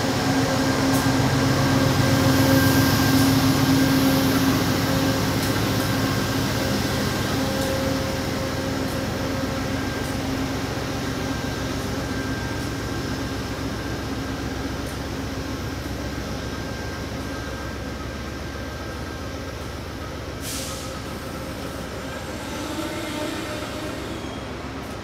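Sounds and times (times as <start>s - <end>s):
train coaches rolling past: 0.0s - 25.0s.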